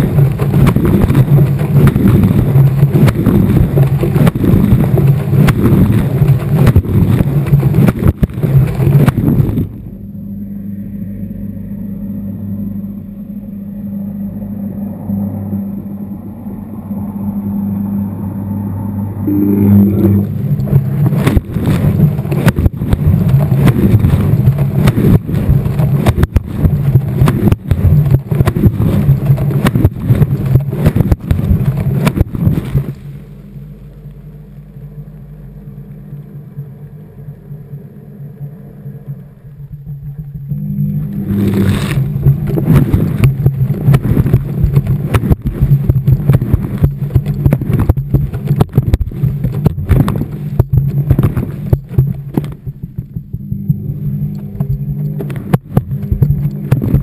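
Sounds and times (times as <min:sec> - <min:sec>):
washing machine motor hum: 0:00.0 - 0:57.0.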